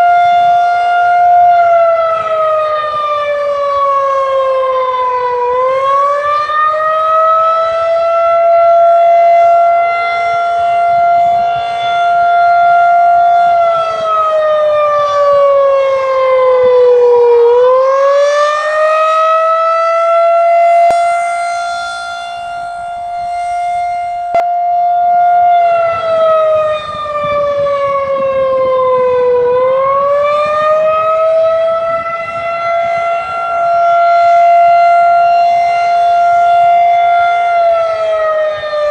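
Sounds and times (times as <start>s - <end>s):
tornado siren winding up and down: 0.0s - 38.9s.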